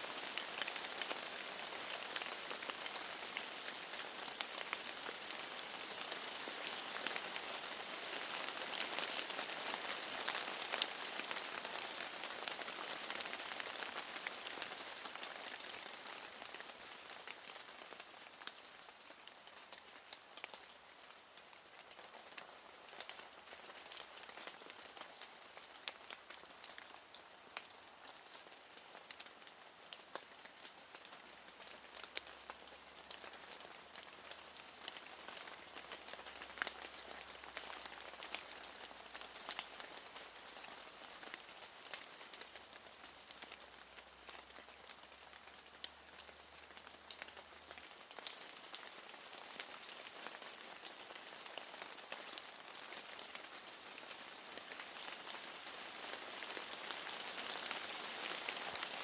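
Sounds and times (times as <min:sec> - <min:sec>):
steady rain hiss: 0:00.0 - 0:59.0
raindrops ticking: 0:00.2 - 0:59.0.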